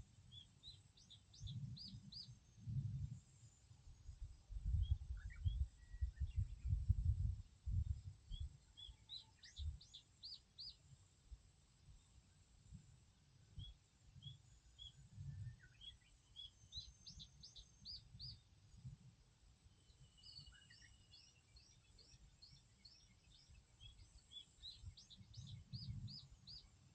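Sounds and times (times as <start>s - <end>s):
songbird singing: 0.0s - 11.2s, 11.8s - 18.9s, 19.6s - 26.9s.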